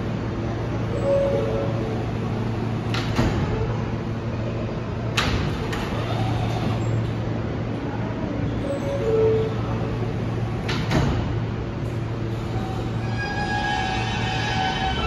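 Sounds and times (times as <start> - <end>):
subway train equipment humming: 0.0 - 15.0.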